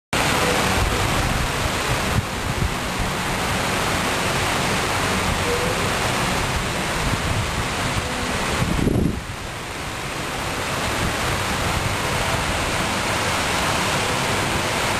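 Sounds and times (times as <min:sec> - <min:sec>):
fountain water splashing: 0:00.2 - 0:14.9.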